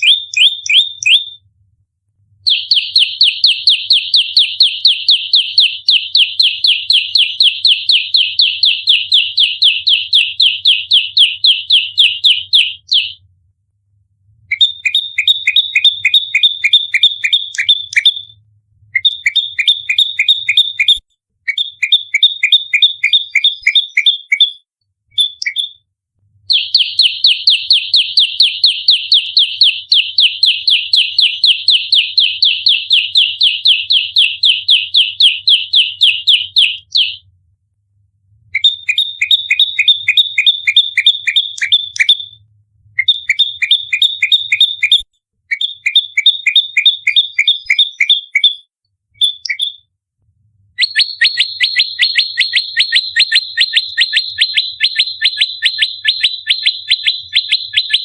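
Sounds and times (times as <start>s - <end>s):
songbird rapid sharp chirps: 0.0s - 1.4s, 2.5s - 13.2s, 14.5s - 18.3s, 18.9s - 25.8s, 26.5s - 37.2s, 38.6s - 42.4s, 43.0s - 49.9s, 50.8s - 58.0s.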